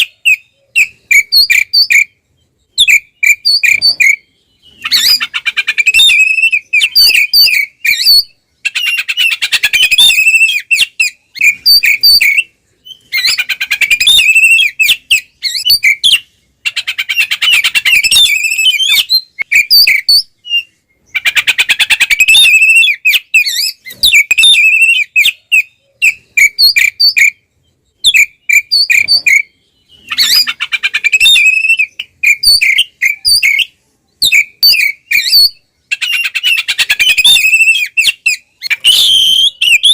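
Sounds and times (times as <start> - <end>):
bird singing loudly: 0.0 - 39.9.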